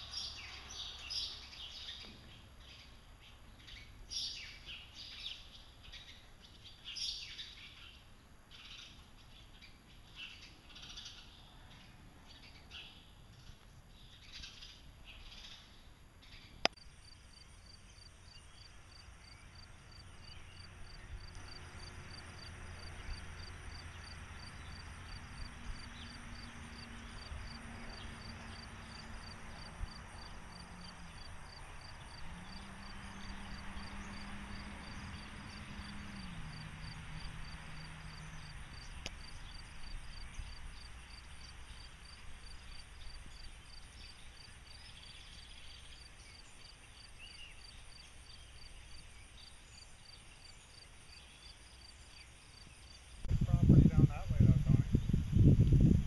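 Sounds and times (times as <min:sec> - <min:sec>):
insects chirping: 0:00.0 - 0:53.8.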